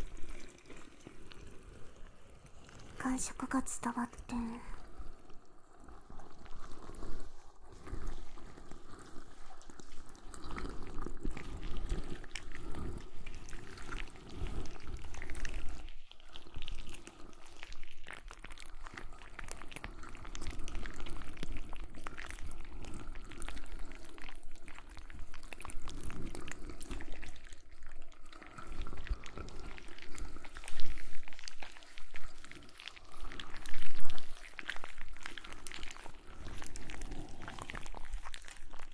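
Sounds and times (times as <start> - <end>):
wet rubbing and squishing: 6.2 - 38.9.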